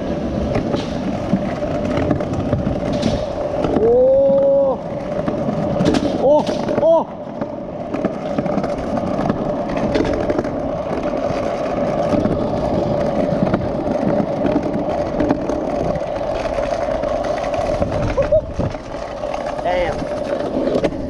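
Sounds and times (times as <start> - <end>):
scooter wheels rolling on pavement: 0.0 - 21.0.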